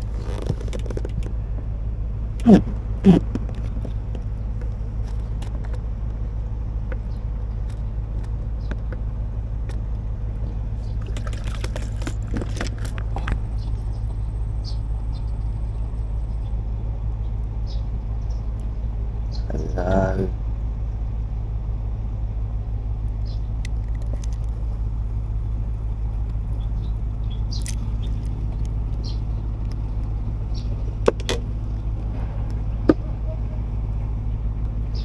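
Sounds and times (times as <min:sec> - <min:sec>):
low engine rumble: 0:00.0 - 0:35.0.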